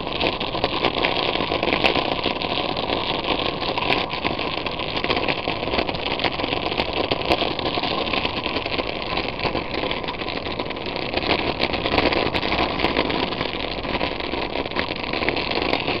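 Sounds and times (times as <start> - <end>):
wheels rumbling on pavement: 0.0 - 16.0.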